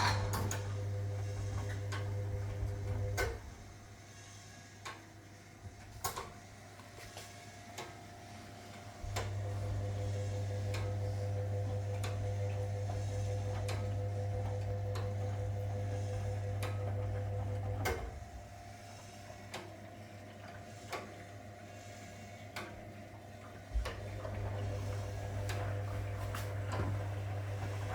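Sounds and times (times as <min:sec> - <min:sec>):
washing machine motor humming: 0:00.0 - 0:04.0, 0:07.6 - 0:27.9.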